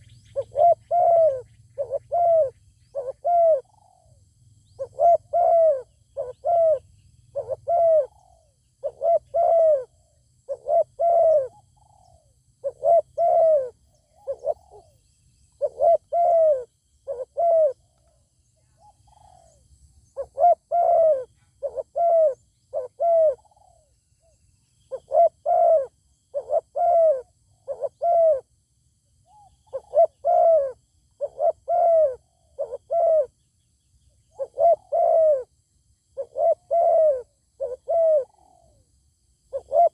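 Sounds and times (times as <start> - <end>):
doves cooing: 0.0 - 4.2, 4.8 - 15.0, 15.6 - 18.0, 20.2 - 23.9, 24.9 - 28.4, 29.3 - 33.3, 34.3 - 35.5, 36.2 - 38.8, 39.5 - 39.9.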